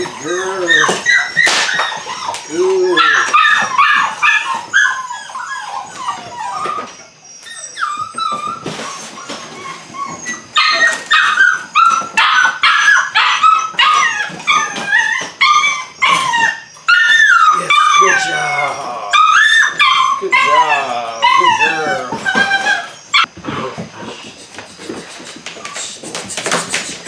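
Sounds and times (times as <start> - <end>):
puppies yipping and barking: 0.0 - 27.0.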